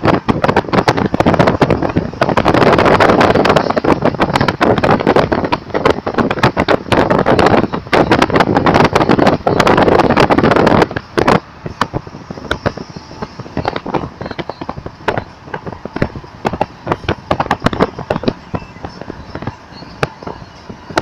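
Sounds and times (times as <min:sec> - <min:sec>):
low road noise: 0:00.0 - 0:21.0
sharp clicks and crackles: 0:00.0 - 0:21.0
wind buffeting microphone: 0:00.0 - 0:21.0.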